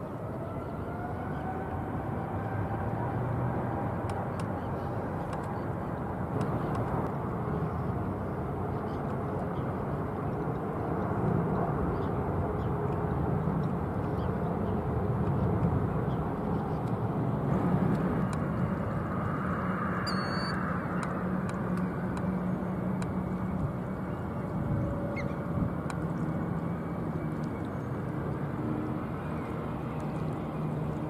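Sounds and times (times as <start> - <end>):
distant jet engine roar: 0.0 - 31.0.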